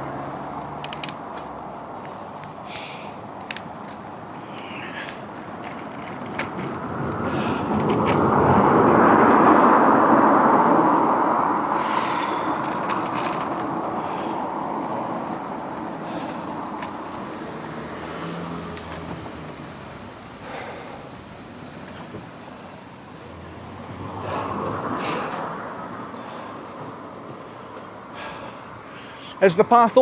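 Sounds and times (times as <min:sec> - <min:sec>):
vehicle tyre and road noise: 0:00.0 - 0:30.0.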